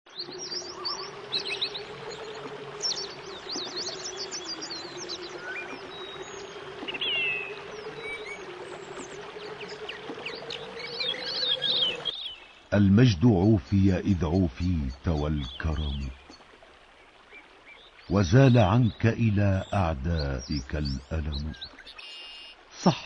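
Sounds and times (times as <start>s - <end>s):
small birds chirping: 0.1s - 16.4s, 17.0s - 23.0s.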